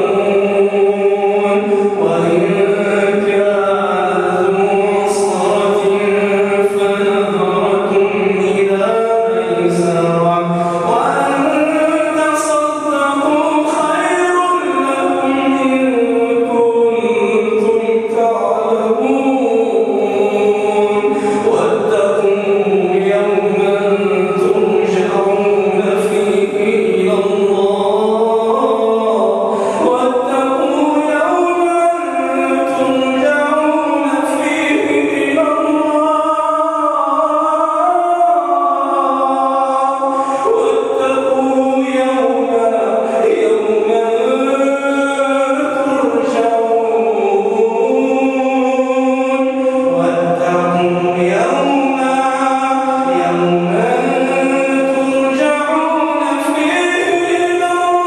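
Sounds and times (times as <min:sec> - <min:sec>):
man reciting melodically: 0:00.0 - 0:58.0.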